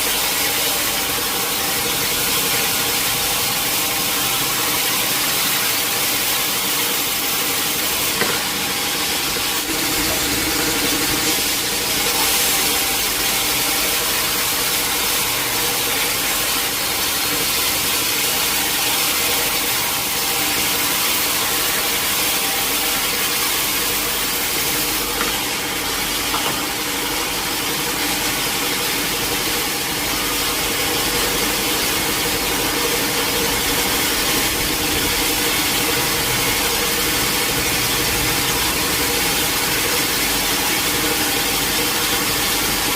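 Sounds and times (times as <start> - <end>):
sawmill saw cutting wood: 0.0 - 42.9.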